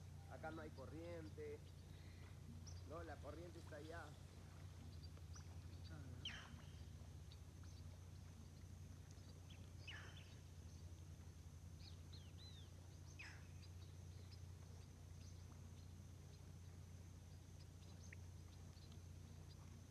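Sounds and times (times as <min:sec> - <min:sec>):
steady high hiss: 0:00.0 - 0:19.6
low steady rumble: 0:00.0 - 0:19.9.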